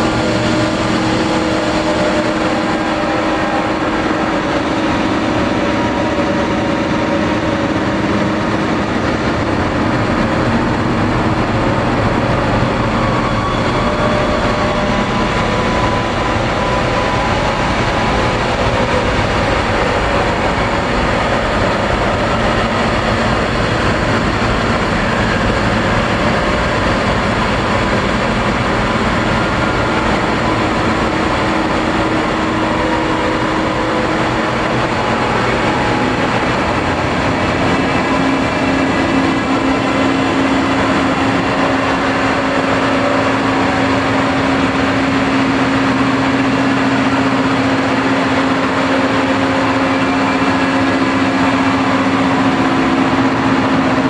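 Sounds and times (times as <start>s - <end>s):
dark ambient noise music: 0.0s - 54.0s
low drone tone: 0.0s - 54.0s.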